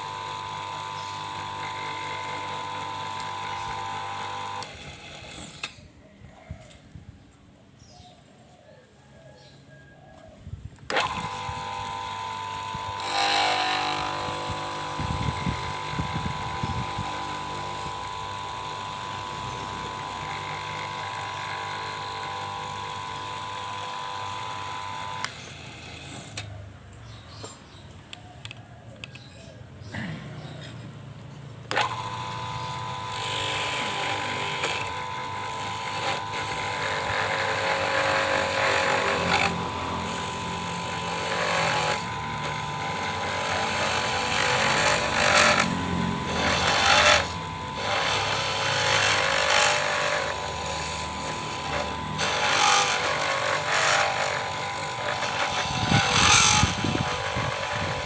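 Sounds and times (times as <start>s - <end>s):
small electric motor whining: 0.0s - 5.9s, 10.7s - 26.5s, 31.7s - 58.0s.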